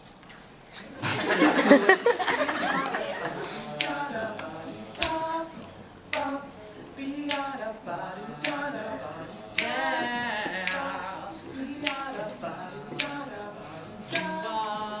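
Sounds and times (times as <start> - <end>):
boys singing a cappella: 1.0 - 15.0.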